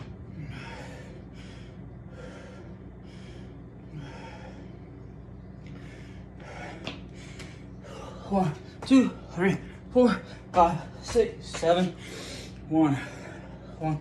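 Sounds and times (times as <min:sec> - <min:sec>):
man breathing hard: 0:00.0 - 0:11.1, 0:11.8 - 0:14.0
faint low hum: 0:00.0 - 0:14.0.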